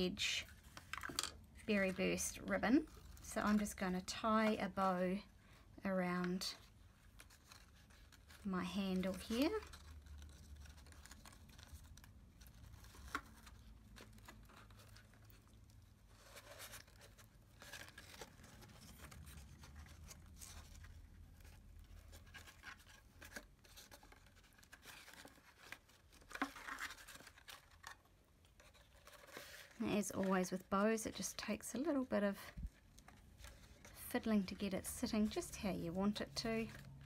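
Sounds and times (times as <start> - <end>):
ribbon rustling on cardstock: 0.0 - 37.0.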